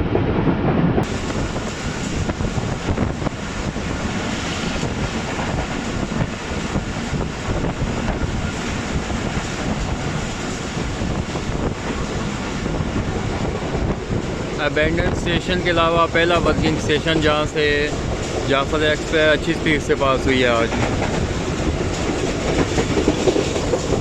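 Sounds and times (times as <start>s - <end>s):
train running noise: 0.0s - 24.0s
wind rushing over microphone: 0.0s - 24.0s.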